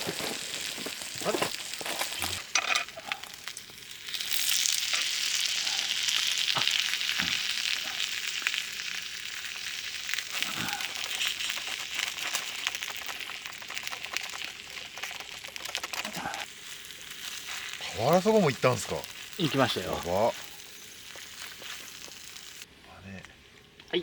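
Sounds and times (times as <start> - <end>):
food frying sizzle: 0.0 - 22.7.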